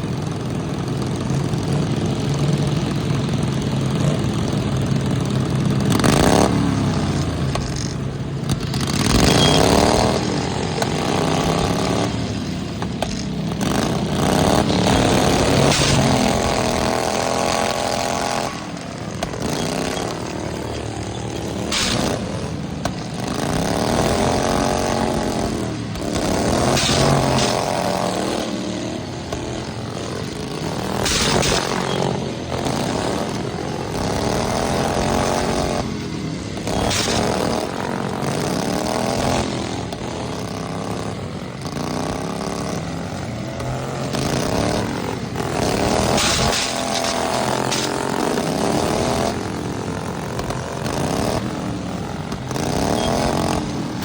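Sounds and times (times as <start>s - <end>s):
lawnmower engines revving: 0.0s - 54.0s.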